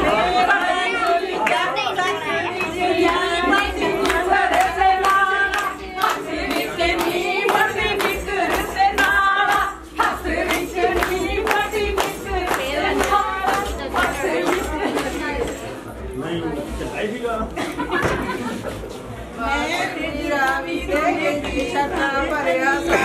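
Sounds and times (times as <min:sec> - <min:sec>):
group of voices singing: 0:00.0 - 0:15.8, 0:19.3 - 0:23.0.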